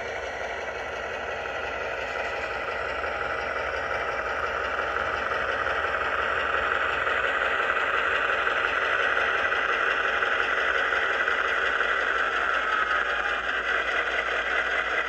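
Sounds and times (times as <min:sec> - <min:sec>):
model train diesel drone: 0:00.0 - 0:15.0.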